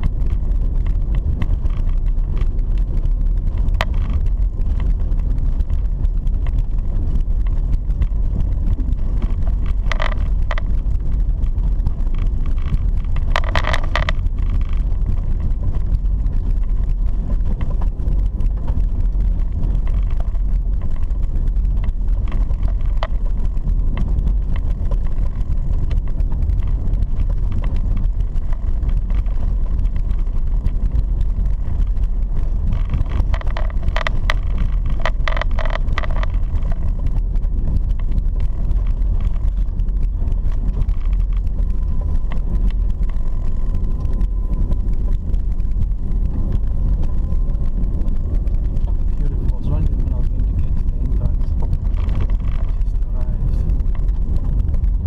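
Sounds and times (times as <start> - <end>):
car driving on dirt road: 0.0 - 55.0
short clatters: 0.0 - 55.0.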